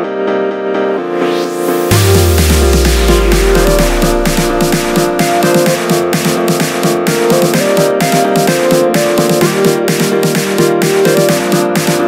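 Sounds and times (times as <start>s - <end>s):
electronic music with fast beat: 0.8s - 12.0s.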